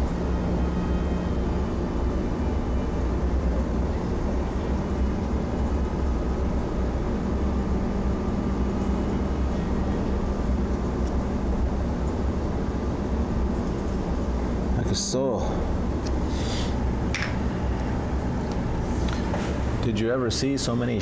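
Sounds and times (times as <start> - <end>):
faint continuous hum: 0.0 - 21.0
low rumbling background noise: 0.0 - 21.0.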